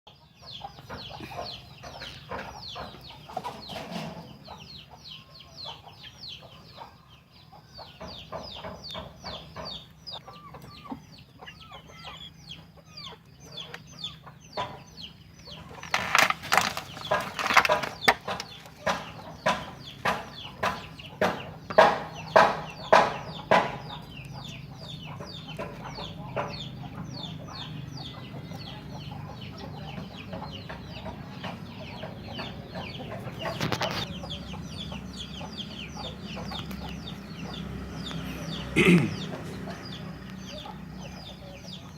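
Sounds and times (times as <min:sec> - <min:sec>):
junglefowl clucking and calling: 0:00.2 - 0:41.9.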